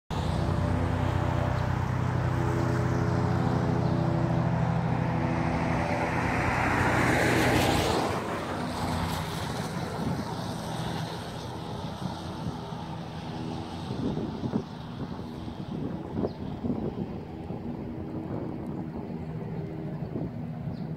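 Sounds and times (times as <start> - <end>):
engine droning: 0.1 - 20.9.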